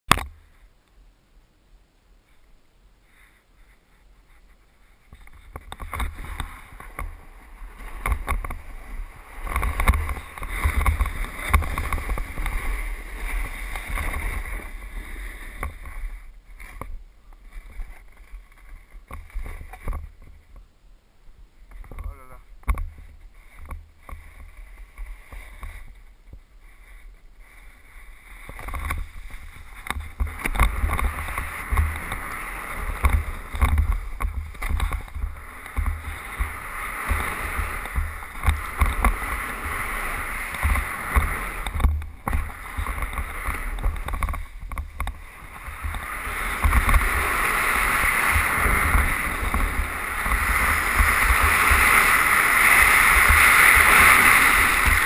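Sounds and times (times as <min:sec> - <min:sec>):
snowboard carving through snow: 0:03.0 - 0:20.5, 0:21.7 - 0:55.0.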